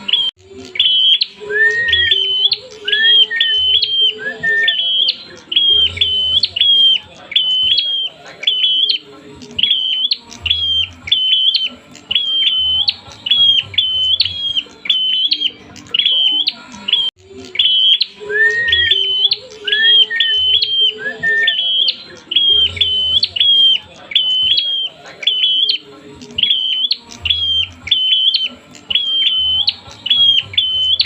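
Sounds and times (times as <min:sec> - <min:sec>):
bird giving sharp high chirps: 0:00.0 - 0:31.0
lower bird call: 0:00.0 - 0:31.0.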